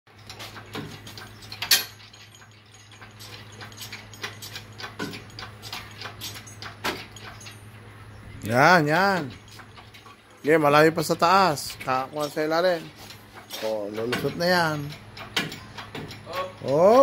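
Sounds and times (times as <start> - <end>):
metallic clicks of hoist chain: 0.1 - 7.8, 8.6 - 17.0
steady low hum: 0.1 - 17.0.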